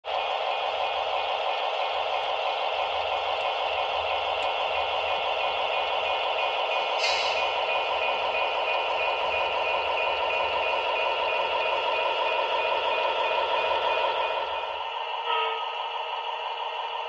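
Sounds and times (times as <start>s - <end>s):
model locomotive running on track: 0.1s - 17.0s.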